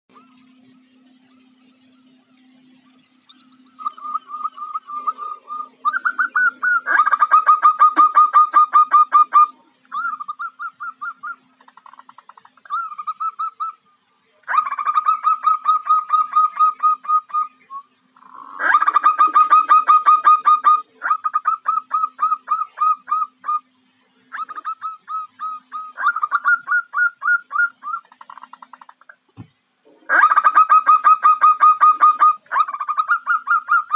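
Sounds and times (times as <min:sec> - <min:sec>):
faint steady hum: 0:00.1 - 0:33.9
dove calling: 0:03.3 - 0:13.8, 0:14.4 - 0:29.2, 0:29.9 - 0:33.9.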